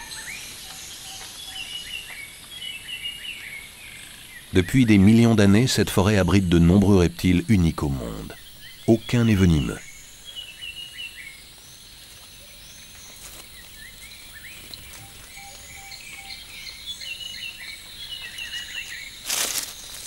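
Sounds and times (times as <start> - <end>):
high insect hum: 0.0 - 20.0
high chirping calls: 3.0 - 11.6, 12.4 - 20.0.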